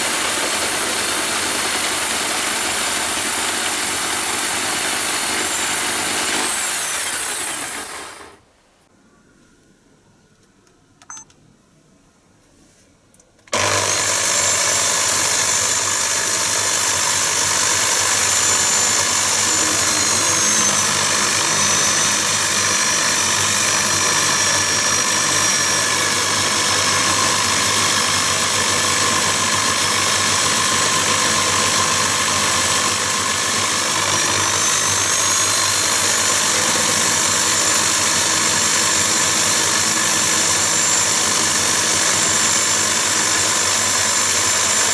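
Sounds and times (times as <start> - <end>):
lathe whining: 0.0 - 8.5, 13.5 - 44.9.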